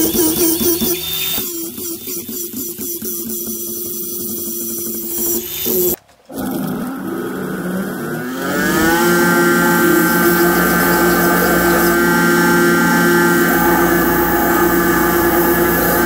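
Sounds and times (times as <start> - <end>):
angle grinder grinding steel: 0.0 - 16.0
belt grinder motor whine: 0.0 - 16.0.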